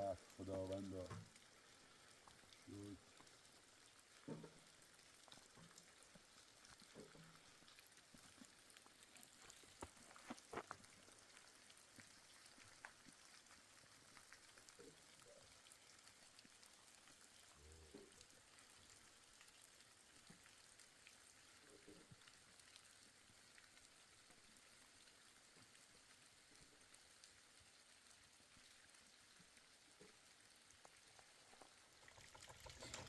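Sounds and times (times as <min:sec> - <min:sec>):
faint steady patter: 0:00.0 - 0:33.0.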